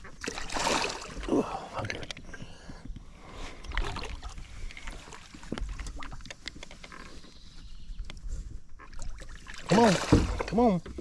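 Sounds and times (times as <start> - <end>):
water around boat: 0.0 - 11.0.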